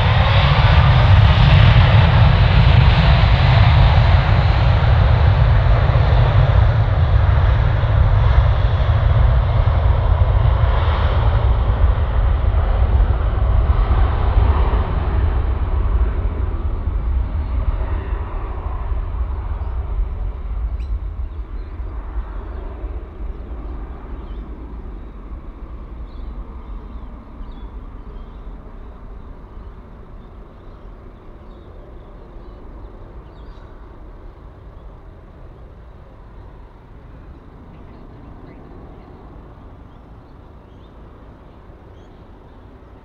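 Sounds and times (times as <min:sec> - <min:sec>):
jet airliner engine rumble: 0:00.0 - 0:43.0.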